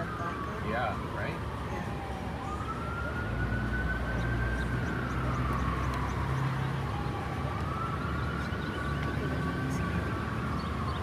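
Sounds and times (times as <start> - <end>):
emergency siren wailing: 0.0 - 11.0
low rumble of traffic: 0.0 - 11.0.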